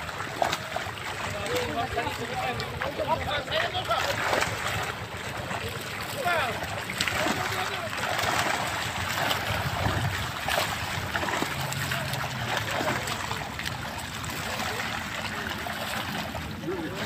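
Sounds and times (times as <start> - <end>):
fish thrashing and splashing: 0.0 - 17.0.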